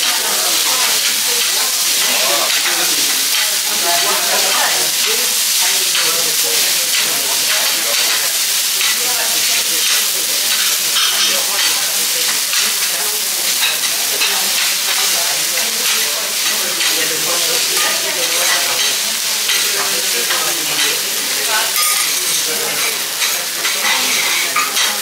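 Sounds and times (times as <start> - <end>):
meat sizzling on griddle: 0.0 - 25.0.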